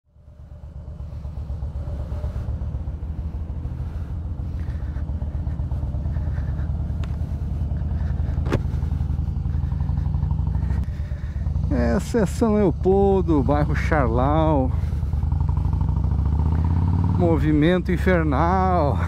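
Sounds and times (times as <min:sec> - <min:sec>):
motorcycle engine running: 0:00.1 - 0:19.0.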